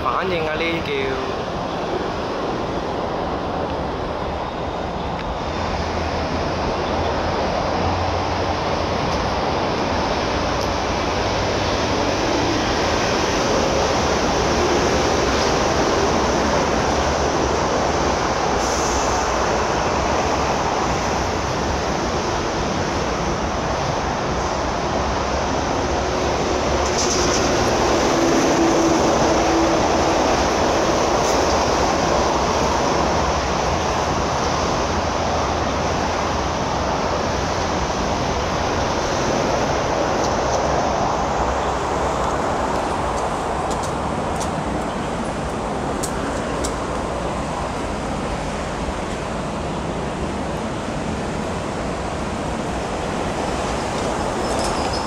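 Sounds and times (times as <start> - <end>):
train rolling on rails: 0.0 - 55.0.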